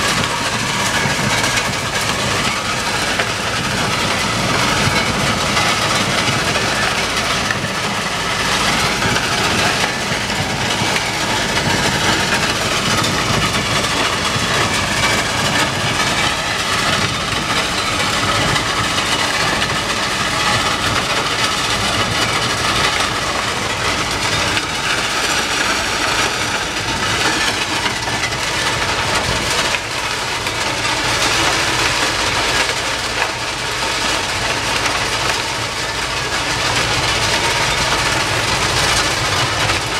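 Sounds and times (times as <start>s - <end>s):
track-cleaning machine din: 0.0s - 39.9s.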